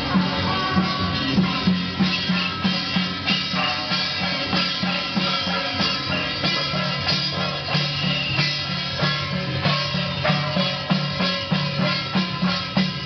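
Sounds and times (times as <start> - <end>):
drum beat: 0.0 - 13.0
hand cymbals: 0.0 - 13.0.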